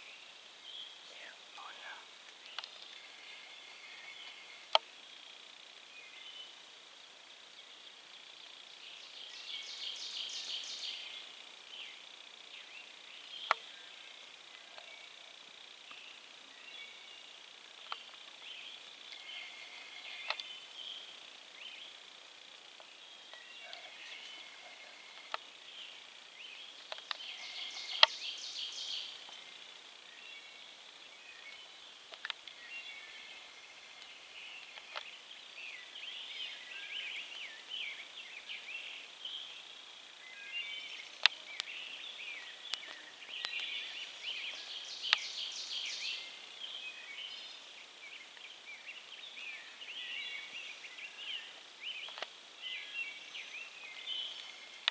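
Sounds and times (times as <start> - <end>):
songbirds calling: 0.0 - 54.9.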